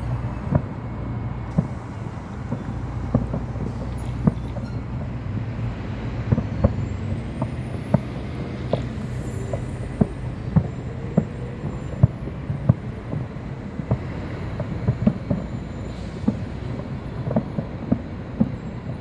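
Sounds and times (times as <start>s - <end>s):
fireworks bangs: 0.0s - 5.2s, 6.0s - 19.0s
steady low rumble: 0.0s - 19.0s.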